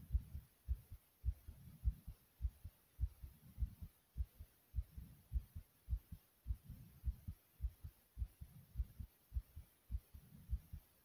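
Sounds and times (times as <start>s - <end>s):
heart beating fast: 0.0s - 10.9s.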